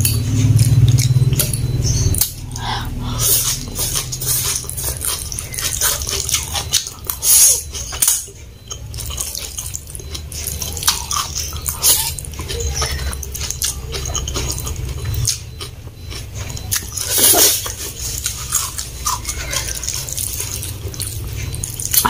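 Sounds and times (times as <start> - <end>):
mouth clicking and smacking: 0.0 - 22.0
wet slurping and chewing: 0.0 - 22.0.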